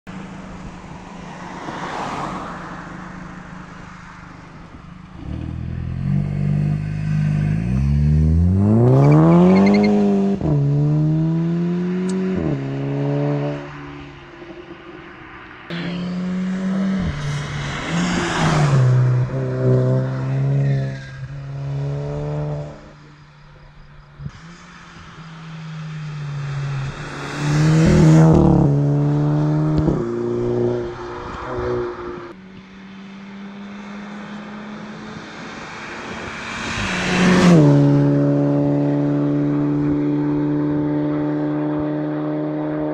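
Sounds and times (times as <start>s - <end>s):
car engine accelerating hard: 4.6s - 13.7s, 15.7s - 23.0s, 24.2s - 42.9s.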